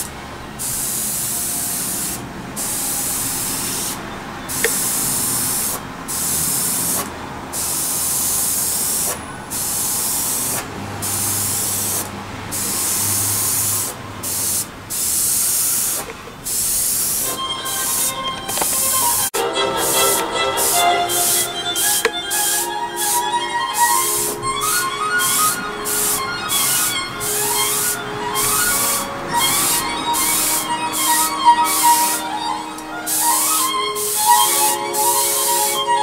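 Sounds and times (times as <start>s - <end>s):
airbrush spraying hiss: 0.6s - 36.0s.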